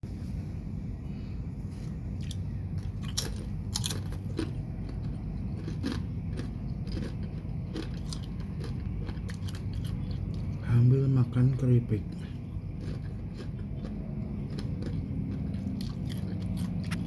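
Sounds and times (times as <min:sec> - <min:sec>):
low background rumble: 0:00.0 - 0:17.0
chips being bitten and chewed: 0:02.2 - 0:11.2, 0:12.1 - 0:17.0.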